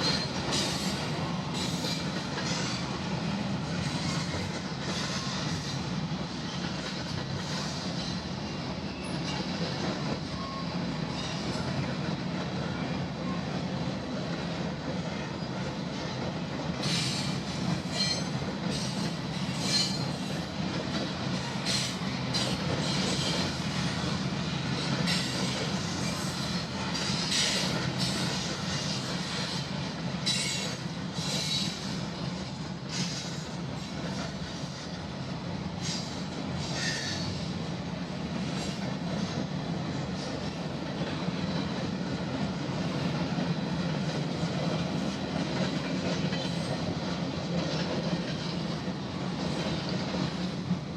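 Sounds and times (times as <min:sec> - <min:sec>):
railcars rolling rumble: 0:00.0 - 0:50.9.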